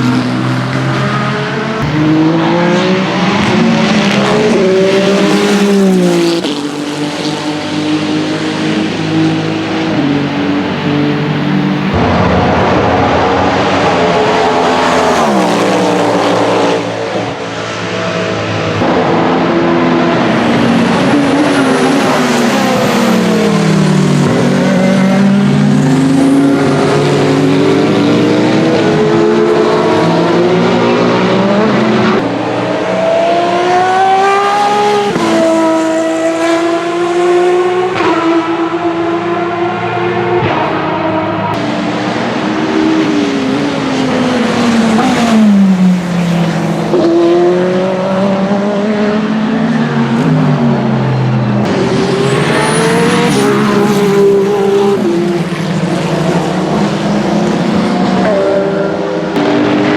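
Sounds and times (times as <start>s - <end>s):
engine upshifts: 0.0s - 59.9s
racing car engines passing: 0.0s - 59.9s.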